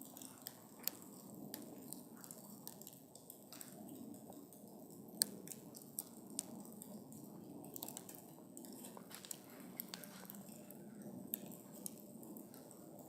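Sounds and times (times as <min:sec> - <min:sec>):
campfire burning: 0:00.0 - 0:13.0.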